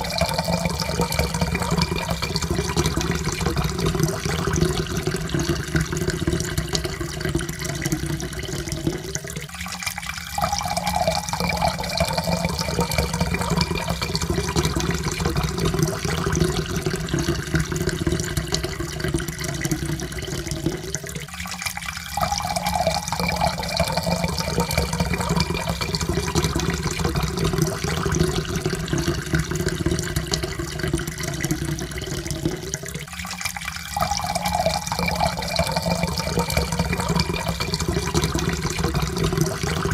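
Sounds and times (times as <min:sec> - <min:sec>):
water pouring into a cup: 0:00.0 - 0:39.9.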